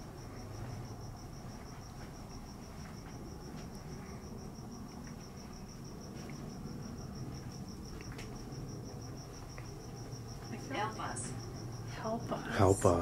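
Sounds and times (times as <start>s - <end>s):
cricket chirping: 0.0s - 13.0s
low room hum: 0.0s - 13.0s.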